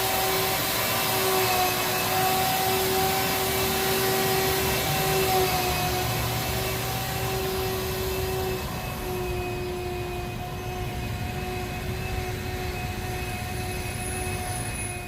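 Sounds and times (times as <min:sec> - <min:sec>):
motor running with whine: 0:00.0 - 0:15.0.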